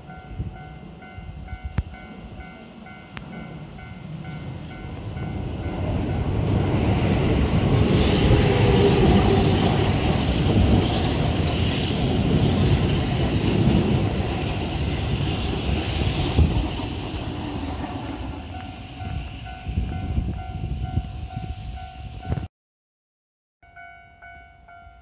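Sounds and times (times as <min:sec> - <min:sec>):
train wheels rumbling on rail: 0:00.0 - 0:22.5.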